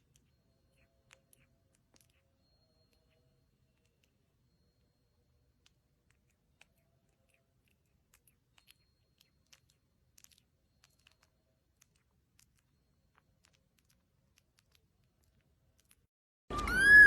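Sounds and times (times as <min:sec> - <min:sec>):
small irregular clicks: 0:00.0 - 0:05.0, 0:05.6 - 0:16.1.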